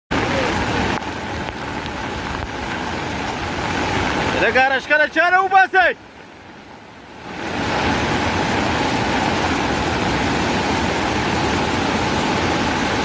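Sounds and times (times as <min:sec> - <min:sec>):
floodwater rushing in a river: 0:00.1 - 0:13.0.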